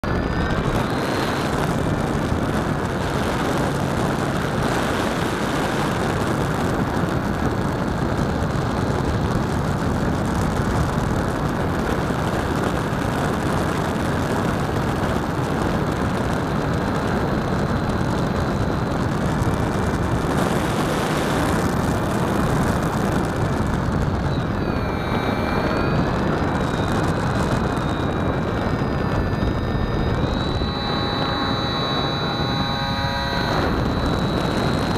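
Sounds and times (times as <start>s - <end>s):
motor and propeller whine: 0.0s - 34.9s
wind rushing over microphone: 0.0s - 34.9s.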